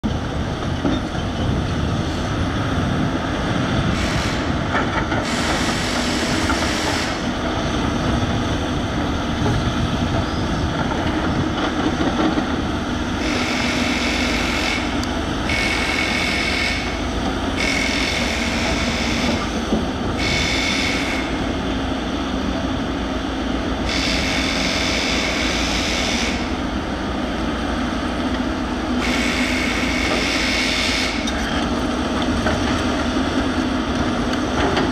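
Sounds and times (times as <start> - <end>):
excavator engine drone: 0.0 - 34.9.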